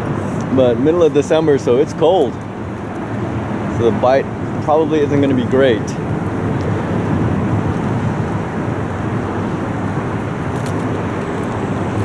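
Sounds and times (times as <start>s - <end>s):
freeway traffic rumble: 0.0s - 12.0s.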